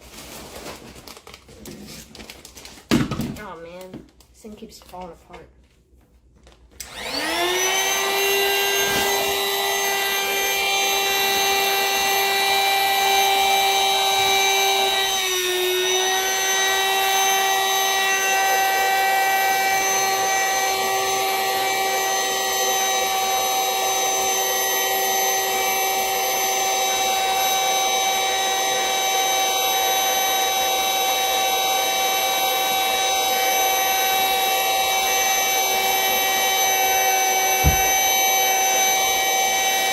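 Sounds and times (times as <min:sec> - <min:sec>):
vacuum cleaner whining: 0:06.8 - 0:39.9.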